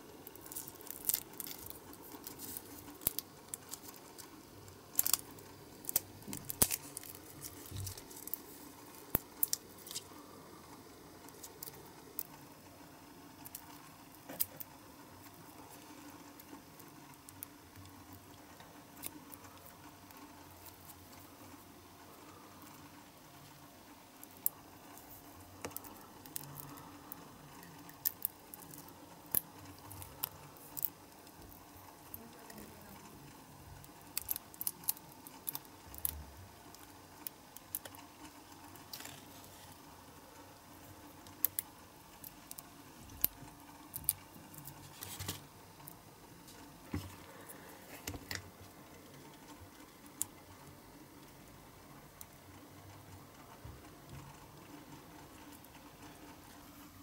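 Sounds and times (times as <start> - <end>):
small clicks and ticks: 0.2 - 56.9.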